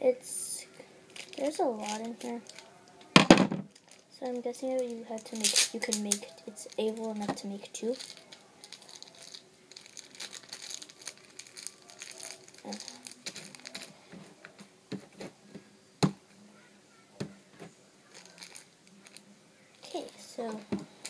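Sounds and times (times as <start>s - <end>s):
wrapper rustling and crackling: 1.0s - 15.3s, 17.5s - 21.0s.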